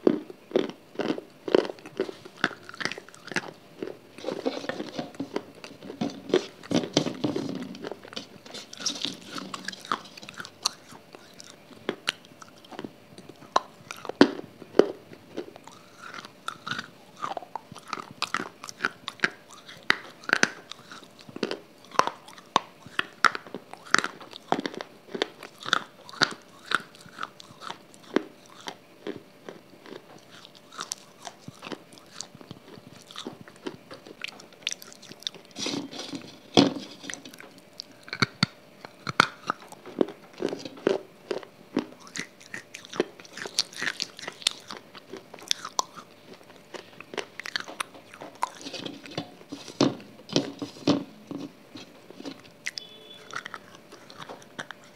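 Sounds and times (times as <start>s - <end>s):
crunching and wet chewing: 0.0s - 54.9s.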